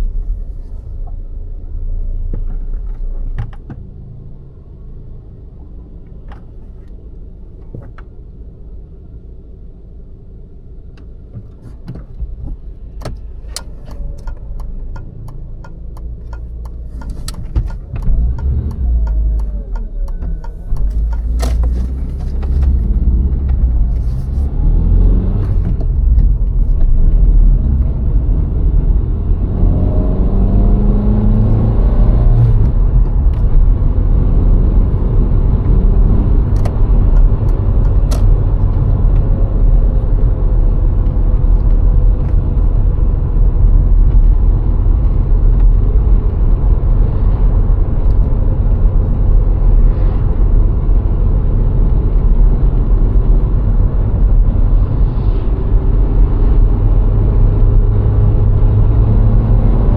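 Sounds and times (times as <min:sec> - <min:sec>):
car engine driving: 0:00.0 - 0:59.9
road rumble: 0:00.0 - 0:59.9.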